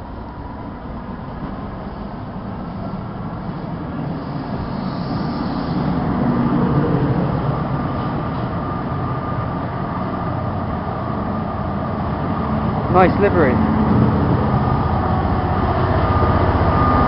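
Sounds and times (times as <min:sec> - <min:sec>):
diesel engine hum: 0:00.0 - 0:17.0
train rail rumble: 0:00.0 - 0:17.0.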